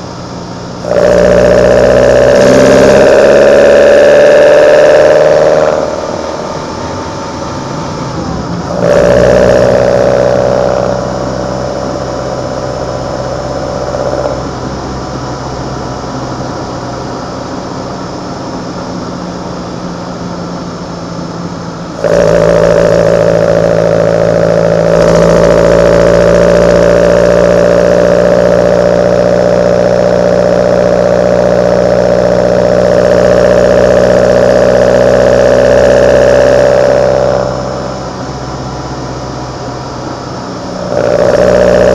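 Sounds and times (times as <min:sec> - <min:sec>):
car engine intake revving: 0:00.0 - 0:41.9.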